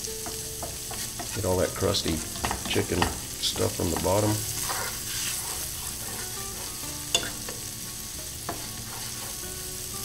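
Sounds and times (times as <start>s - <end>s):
onions sizzling in a skillet: 0.0s - 10.0s
wooden spatula scraping skillet: 0.2s - 9.9s.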